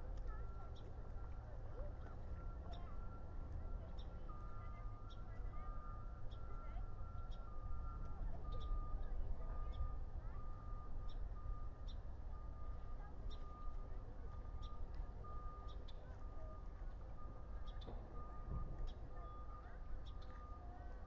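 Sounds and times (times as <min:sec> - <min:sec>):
distant reversing alarm beeping: 0:00.0 - 0:21.0.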